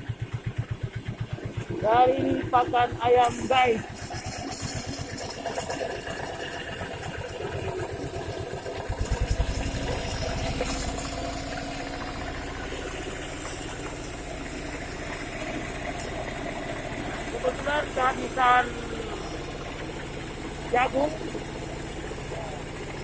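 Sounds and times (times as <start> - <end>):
grain mill grinding: 1.8 - 23.0.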